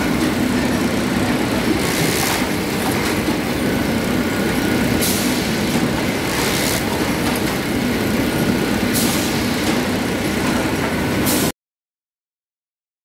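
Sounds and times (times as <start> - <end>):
wrapping machine running: 0.0 - 11.4.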